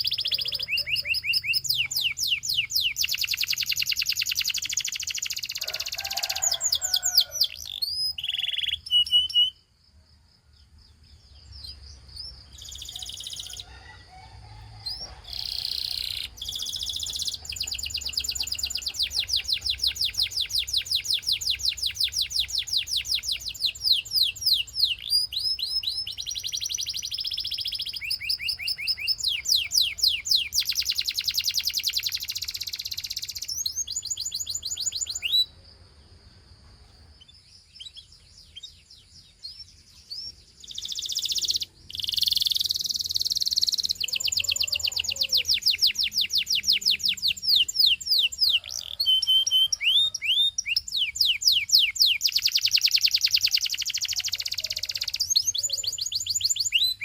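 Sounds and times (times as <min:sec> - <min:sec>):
canary singing trills: 0:00.0 - 0:09.8, 0:10.6 - 0:35.6, 0:37.0 - 0:57.0.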